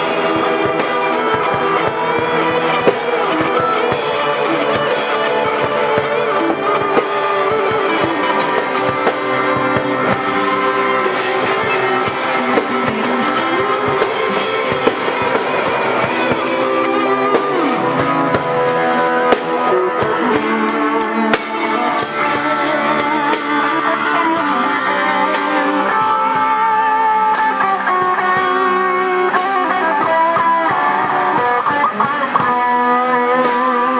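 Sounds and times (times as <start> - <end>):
electric guitars playing rock: 0.0 - 33.9
steady drum beat: 0.0 - 33.9.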